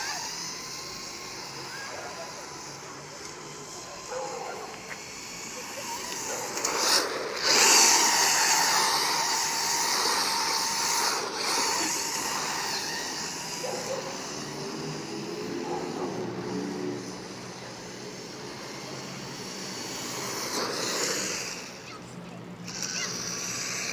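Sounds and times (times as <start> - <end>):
electric motor whine: 0.0 - 23.9.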